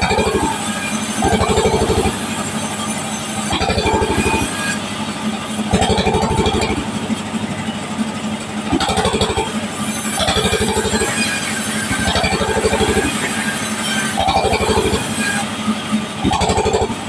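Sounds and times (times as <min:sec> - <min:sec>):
band sawmill cutting plank: 0:00.0 - 0:17.0.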